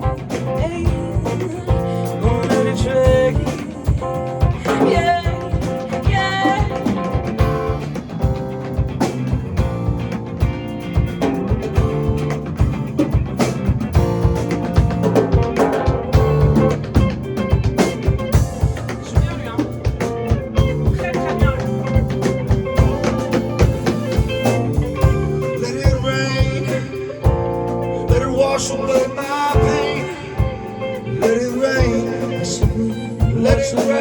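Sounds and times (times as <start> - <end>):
bass: 0.0 - 34.0
drum kit beat: 0.0 - 34.0
electric guitar: 0.0 - 34.0.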